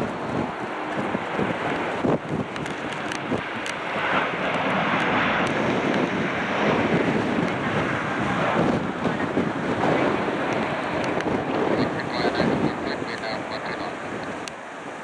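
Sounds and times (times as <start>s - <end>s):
jet engines roaring: 0.0s - 15.0s
wind buffeting the microphone: 0.0s - 15.0s.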